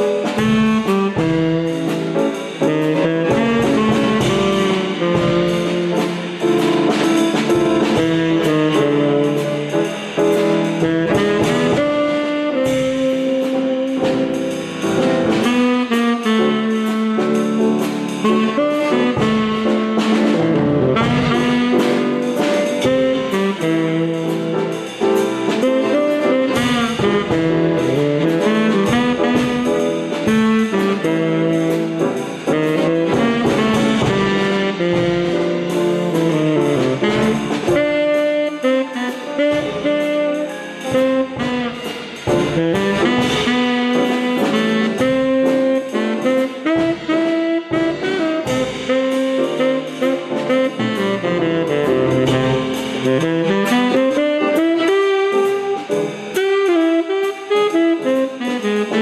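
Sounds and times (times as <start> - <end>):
jazz saxophone and brass music: 0.0 - 59.0.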